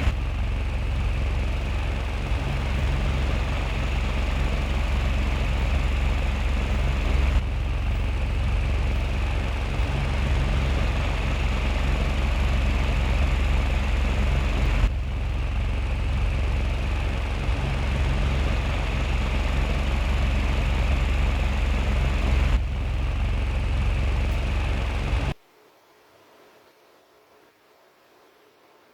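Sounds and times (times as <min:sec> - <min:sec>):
ceiling fan whirring: 0:00.0 - 0:28.9.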